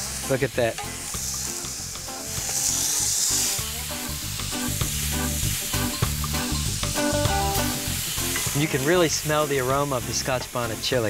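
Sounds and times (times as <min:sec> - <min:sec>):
fish sizzling on grill: 0:00.0 - 0:11.0.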